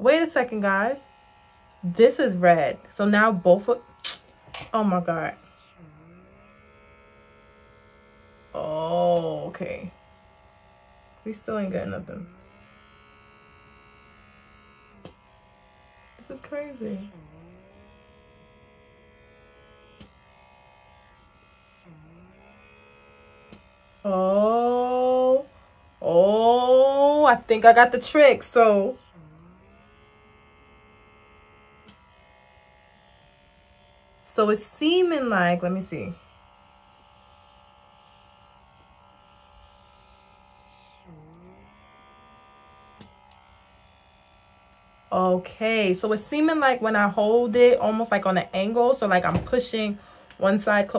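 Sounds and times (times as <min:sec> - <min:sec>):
small electric motor humming: 0:00.0 - 0:50.9.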